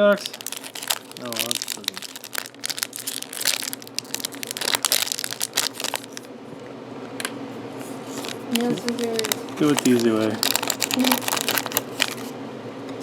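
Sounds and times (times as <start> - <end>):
plastic wrapper crinkling: 0.0 - 6.3, 8.0 - 12.3.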